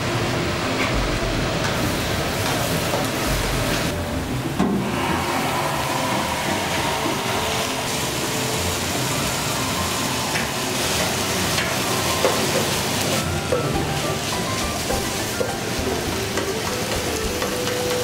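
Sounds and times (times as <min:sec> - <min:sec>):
chicken sizzling in frying pan: 0:00.0 - 0:18.0.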